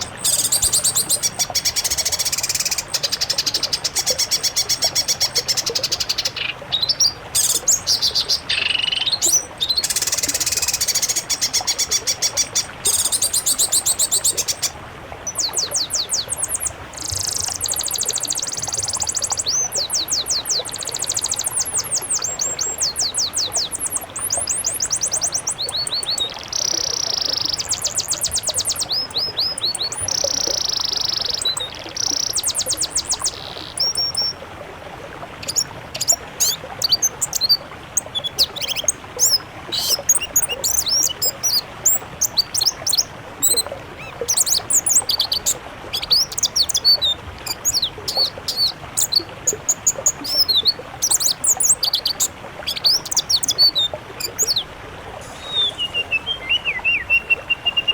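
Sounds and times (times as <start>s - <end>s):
songbirds chirping and trilling: 0.0s - 34.4s, 35.4s - 57.9s.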